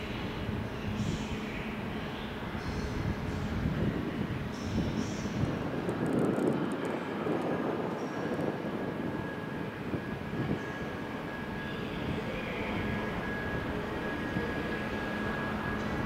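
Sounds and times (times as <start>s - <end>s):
thin high whine: 0.0s - 16.0s
train rolling slowly: 0.0s - 16.0s.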